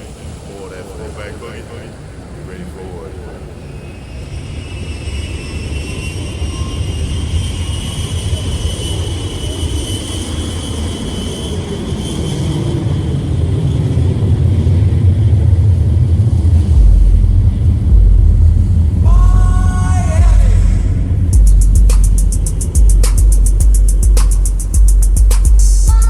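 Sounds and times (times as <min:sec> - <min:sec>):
engine rumble: 0:00.0 - 0:04.4, 0:06.2 - 0:26.0
high whine rising in pitch: 0:00.0 - 0:26.0.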